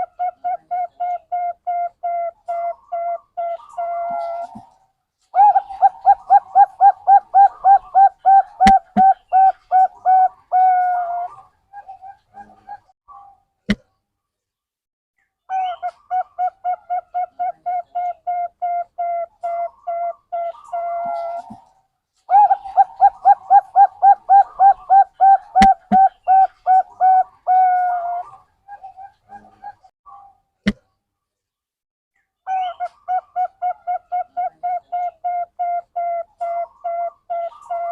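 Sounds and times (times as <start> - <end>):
dove cooing: 0.0 - 4.7, 5.4 - 12.8, 15.6 - 21.6, 22.3 - 29.9, 32.5 - 37.9.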